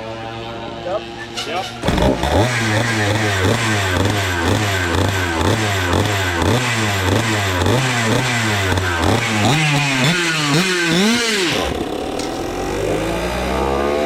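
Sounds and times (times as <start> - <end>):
kart engine revving: 0.0 - 14.0.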